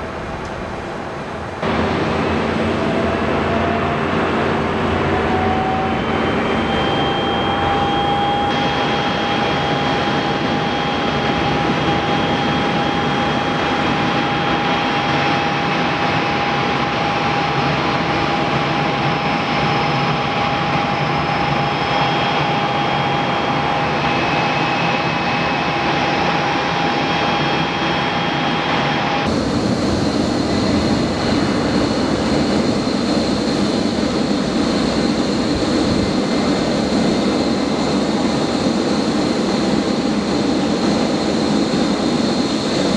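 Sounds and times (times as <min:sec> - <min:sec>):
jet engines with turbine whine: 0:00.0 - 0:42.9.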